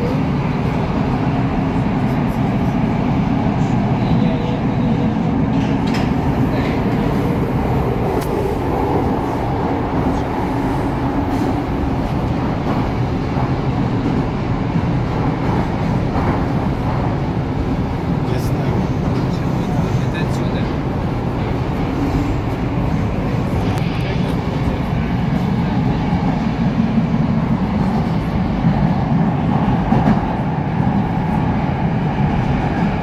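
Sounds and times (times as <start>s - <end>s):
metro train wheels rumbling: 0.0s - 33.0s.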